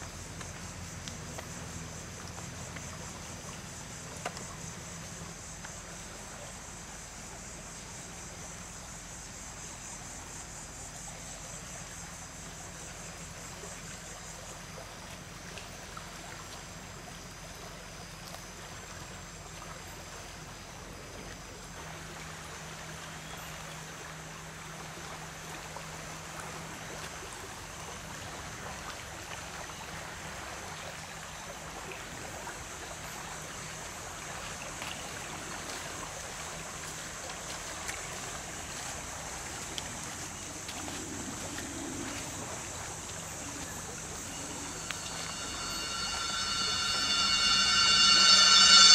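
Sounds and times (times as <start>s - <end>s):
insects buzzing: 0.0s - 28.3s, 31.0s - 48.9s
creek water flowing: 0.0s - 48.9s.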